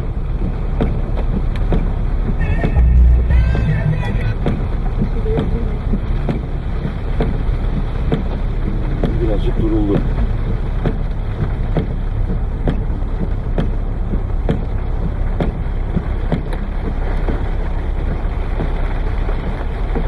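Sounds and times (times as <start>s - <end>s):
heavy rain pouring: 0.1s - 20.0s.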